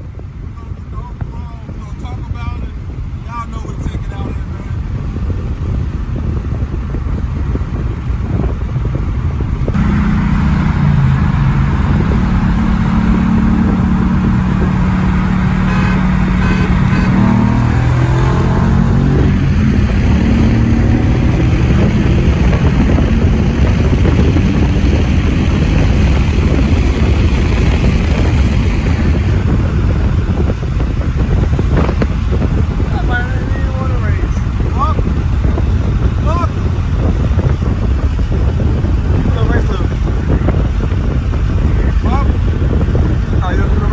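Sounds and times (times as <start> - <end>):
car engine running hard: 0.0 - 43.9
wind and road rumble: 0.0 - 43.9.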